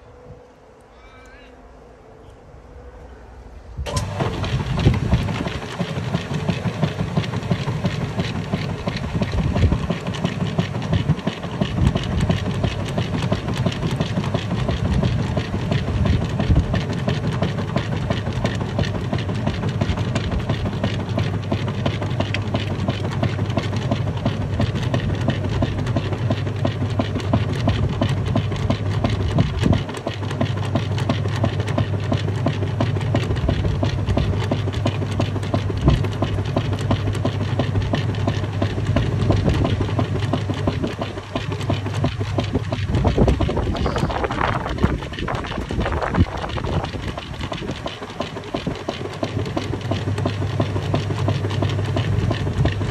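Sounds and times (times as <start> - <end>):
washing machine motor hum: 3.8 - 52.9
water churning and sloshing: 3.9 - 52.9.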